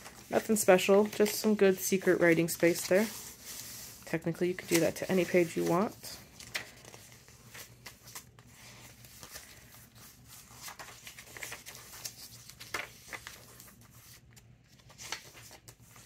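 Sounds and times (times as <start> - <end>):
paper pages turning and rustling: 0.0 - 16.0.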